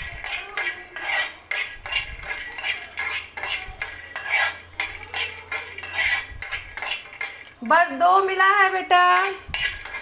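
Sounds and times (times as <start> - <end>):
spatula scraping a frying pan: 0.0 - 10.0.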